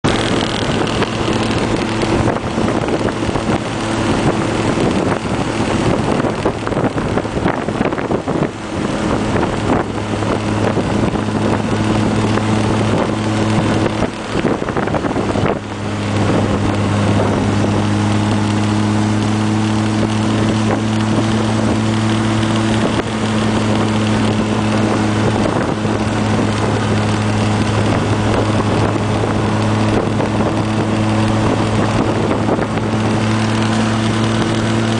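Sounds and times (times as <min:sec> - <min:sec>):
car engine humming at cruise: 0:00.0 - 0:34.9
wind rush: 0:00.0 - 0:34.9.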